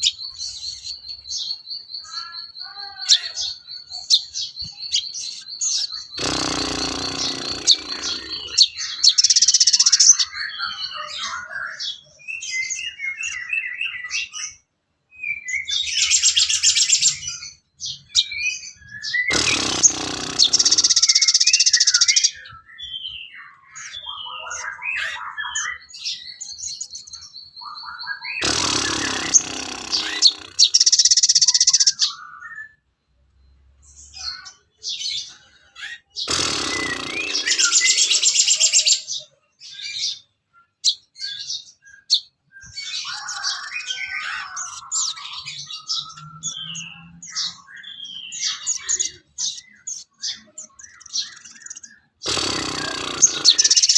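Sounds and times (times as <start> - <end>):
songbird chattering song: 0.0 - 53.9.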